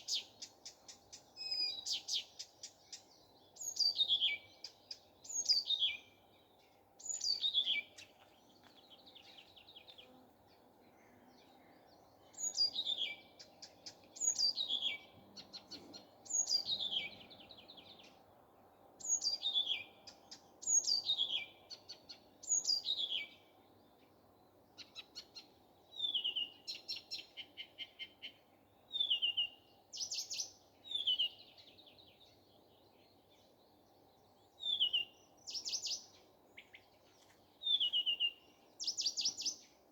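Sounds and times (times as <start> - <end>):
nightingale singing: 0.0 - 10.2, 11.4 - 18.2, 19.0 - 23.5, 24.8 - 39.8.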